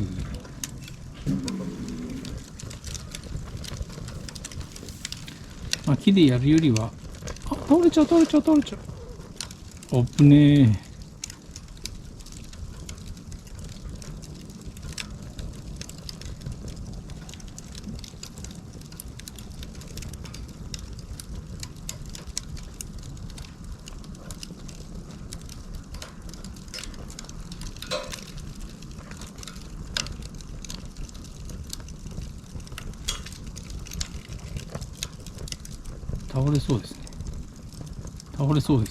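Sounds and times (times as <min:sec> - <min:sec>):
fire crackling and popping: 0:00.0 - 0:38.9
fire low rumble: 0:00.0 - 0:38.9.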